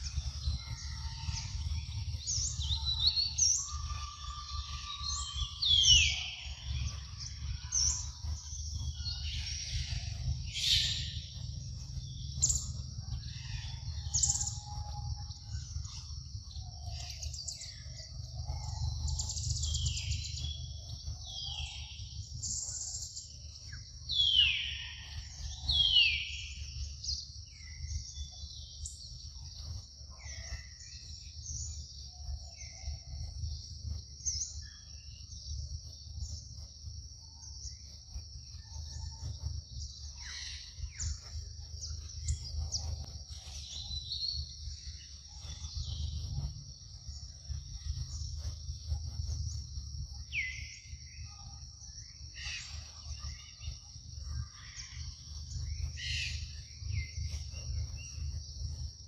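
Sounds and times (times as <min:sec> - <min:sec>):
low rumble: 0:00.0 - 0:25.7, 0:26.3 - 0:59.0
high insect drone: 0:00.0 - 0:59.0.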